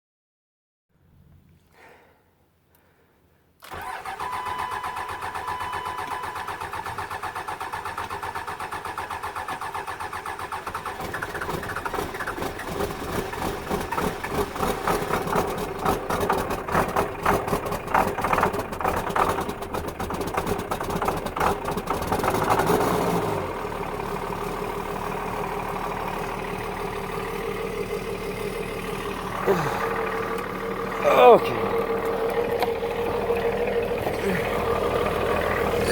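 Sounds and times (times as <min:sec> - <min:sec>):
diesel engine cranking: 0:03.6 - 0:35.9
diesel engine idling: 0:03.7 - 0:35.9.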